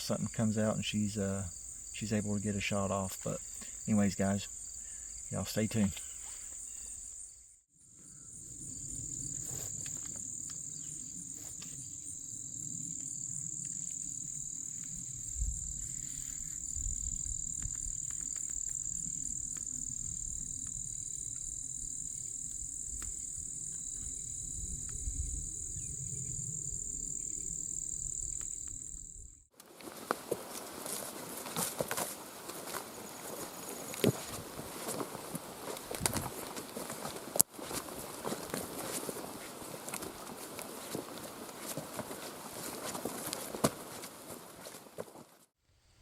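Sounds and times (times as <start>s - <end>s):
insects chirping drone: 0.0s - 44.8s.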